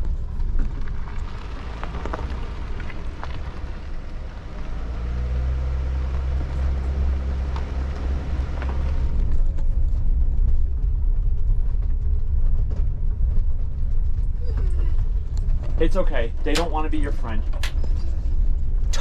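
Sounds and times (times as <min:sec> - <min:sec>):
van engine humming: 0:00.0 - 0:19.0.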